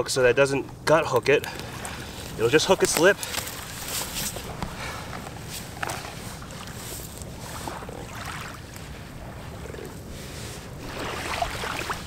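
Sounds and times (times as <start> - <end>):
wind rumbling on microphone: 1.6 - 12.0
scrapes of wet sand and gravel: 1.9 - 12.0.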